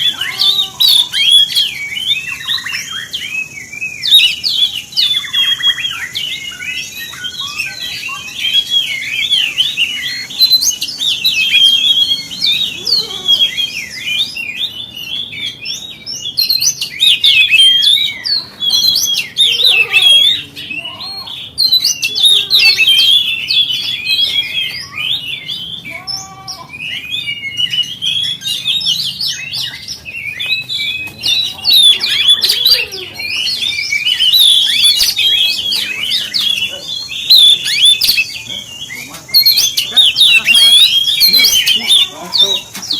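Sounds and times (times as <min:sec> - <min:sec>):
bird singing whistles and chirps: 0:00.0 - 0:42.9.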